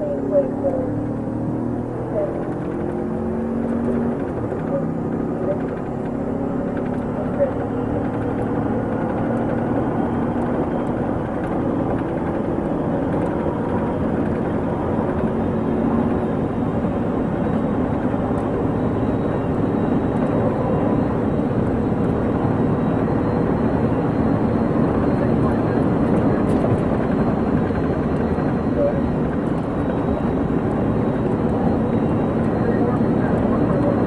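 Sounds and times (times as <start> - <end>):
vehicle engine and road noise: 0.0 - 34.0.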